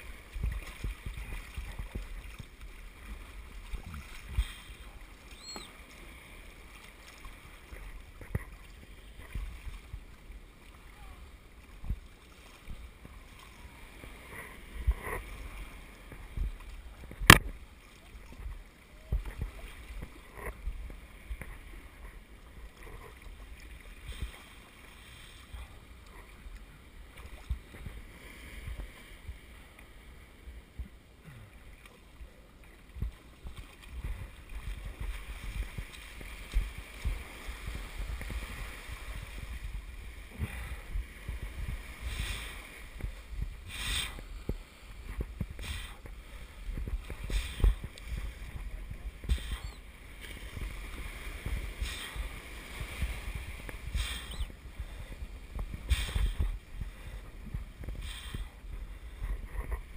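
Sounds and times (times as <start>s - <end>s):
water lapping against hulls: 0.0s - 59.9s.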